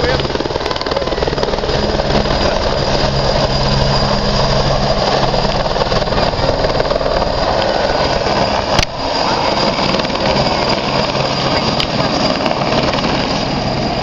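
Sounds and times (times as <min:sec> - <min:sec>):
helicopter drone: 0:00.0 - 0:14.0.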